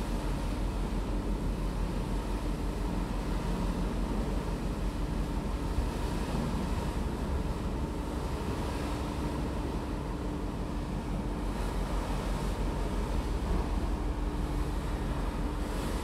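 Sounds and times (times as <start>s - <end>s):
sea water rushing: 0.0s - 16.0s
ship engine rumble: 0.0s - 16.0s.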